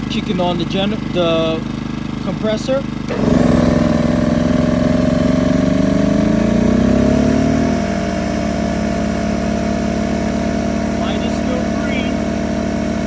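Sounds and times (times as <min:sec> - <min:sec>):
air compressor running: 0:00.0 - 0:13.0
generator engine: 0:00.0 - 0:13.0.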